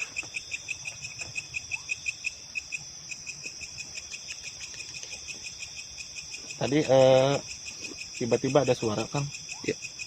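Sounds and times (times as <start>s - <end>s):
high-pitched insect trill: 0.0s - 10.0s
insects chirping: 0.0s - 10.0s.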